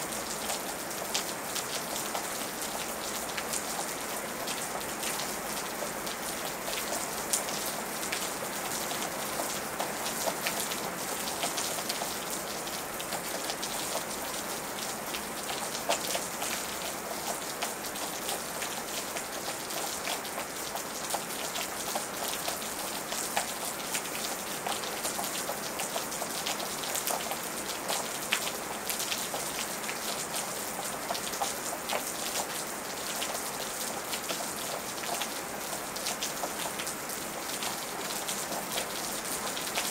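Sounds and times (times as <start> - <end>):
rain drops ticking on hard surface: 0.0 - 39.9.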